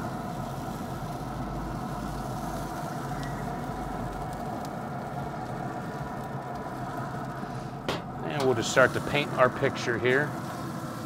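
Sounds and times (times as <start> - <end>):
grill fan humming: 0.0 - 11.0.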